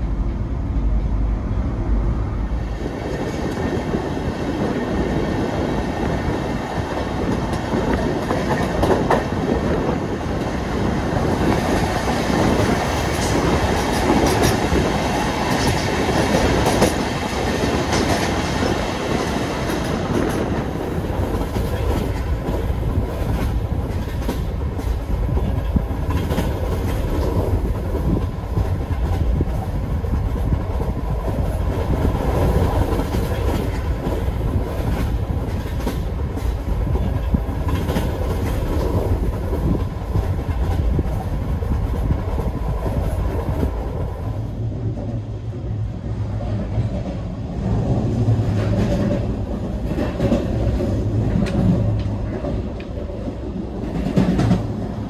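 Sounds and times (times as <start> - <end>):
train wheels rumbling: 0.0 - 55.0
clickety-clack over rail joints: 2.6 - 55.0.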